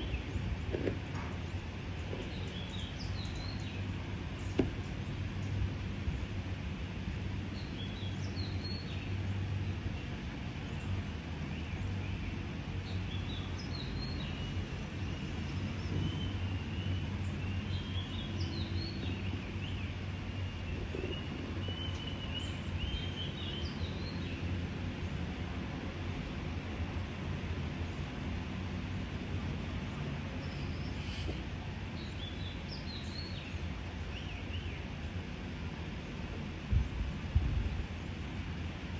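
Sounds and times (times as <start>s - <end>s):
small birds chirping: 0.0s - 24.5s, 27.7s - 34.8s
steady low hum: 0.0s - 32.2s.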